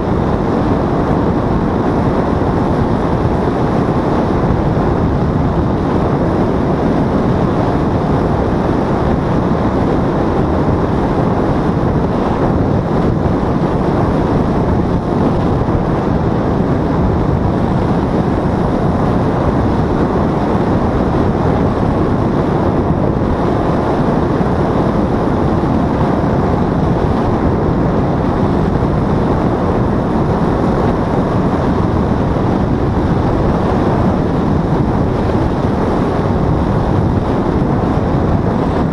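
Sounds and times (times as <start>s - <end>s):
paramotor engine and propeller: 0.0s - 38.9s
wind buffeting microphone: 0.0s - 38.9s.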